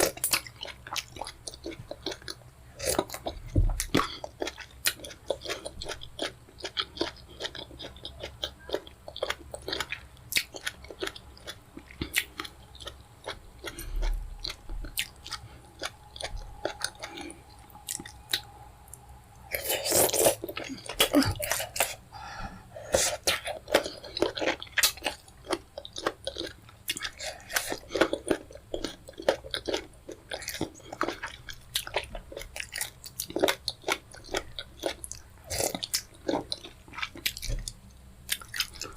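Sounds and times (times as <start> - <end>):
chewing and wet mouth smacks: 0.0 - 22.0, 23.1 - 38.9.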